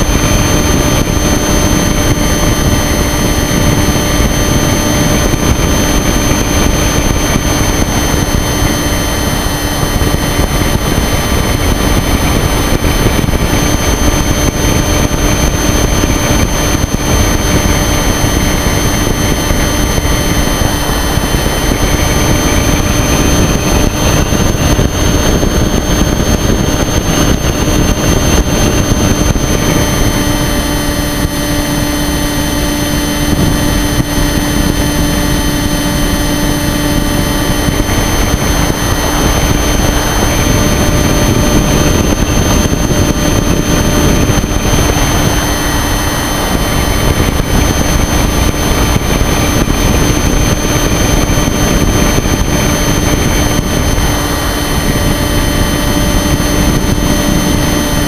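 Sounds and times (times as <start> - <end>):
model plane motor and propeller: 0.0 - 58.0
wind rushing over microphone: 0.0 - 58.0.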